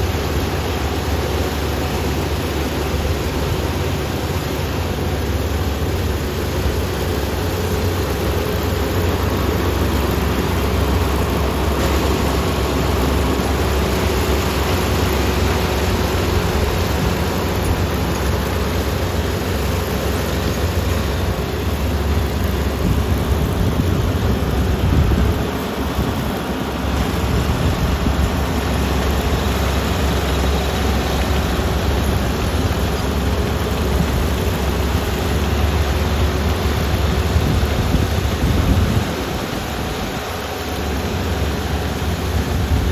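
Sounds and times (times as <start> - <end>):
combine harvester engine rumble: 0.0 - 42.9.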